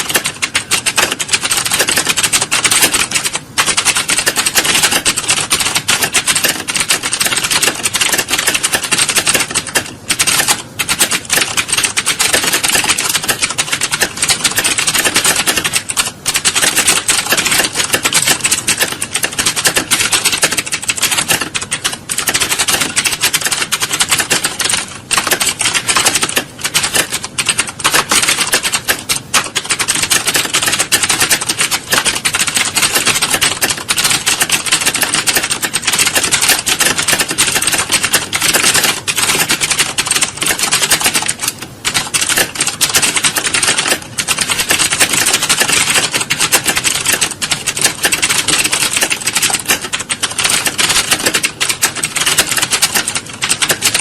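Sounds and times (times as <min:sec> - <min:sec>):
fast typing on keyboards: 0:00.0 - 0:54.0.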